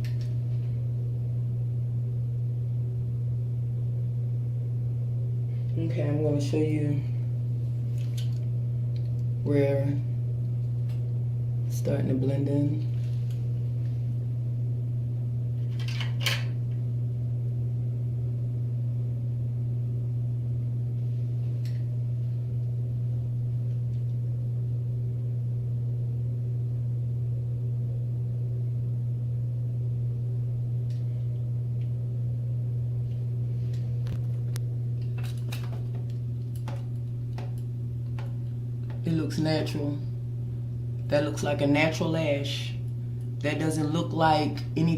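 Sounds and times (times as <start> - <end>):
low hum with higher tones: 0.0 - 44.9.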